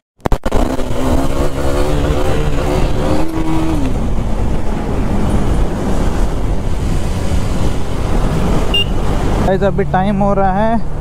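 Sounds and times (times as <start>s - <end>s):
rushing wind and road noise: 0.2s - 11.0s.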